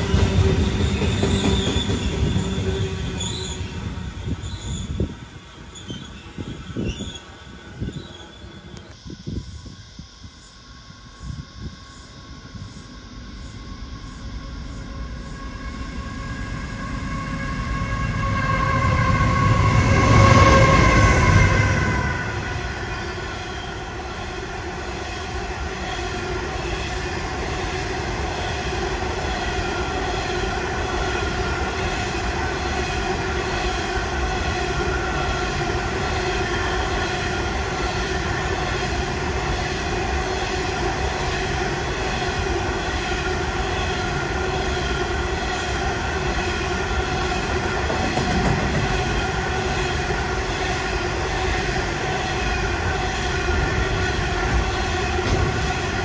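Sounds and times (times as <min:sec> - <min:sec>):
train wheels rumbling and rattling: 0:00.0 - 0:08.9, 0:12.6 - 0:56.0
steady whining tone: 0:00.0 - 0:56.0.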